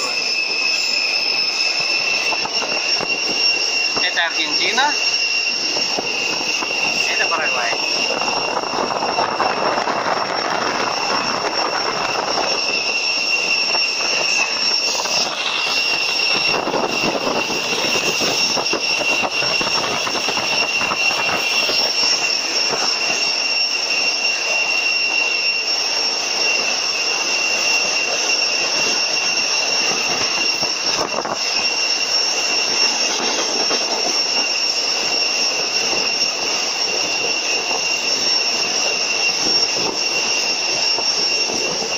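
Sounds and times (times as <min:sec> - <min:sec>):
high-pitched whine: 0:00.0 - 0:41.9
train running noise: 0:00.0 - 0:41.9.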